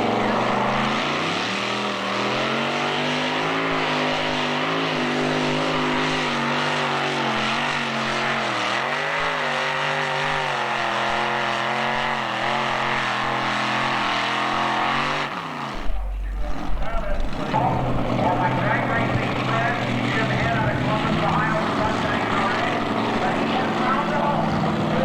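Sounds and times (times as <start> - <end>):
truck engine at high revs: 0.0 - 25.0.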